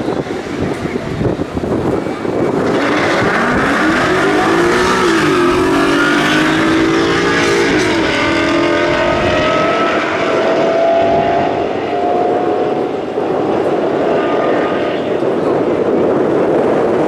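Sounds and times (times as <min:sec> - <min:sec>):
car engines revving with upshifts: 0:01.8 - 0:16.6.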